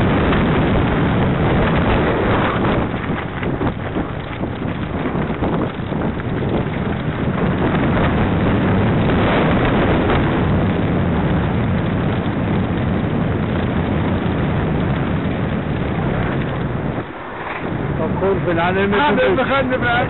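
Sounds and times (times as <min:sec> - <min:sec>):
bike tyres rumbling on frozen ground: 0:00.0 - 0:20.0
wind rushing over microphone: 0:00.0 - 0:20.0.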